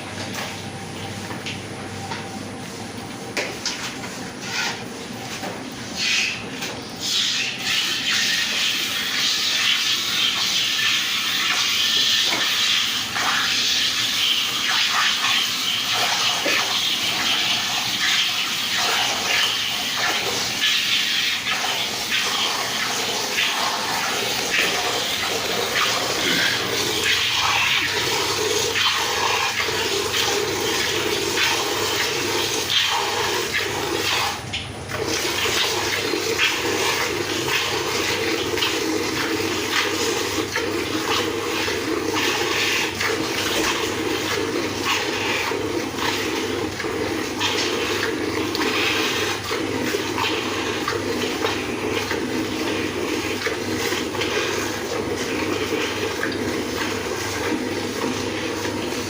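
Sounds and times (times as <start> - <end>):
water gushing and splashing: 6.0 - 59.0.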